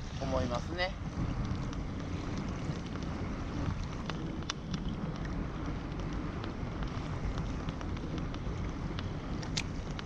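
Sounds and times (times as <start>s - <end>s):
waves lapping against hull: 0.0s - 10.0s
wind buffeting microphone: 0.0s - 10.0s.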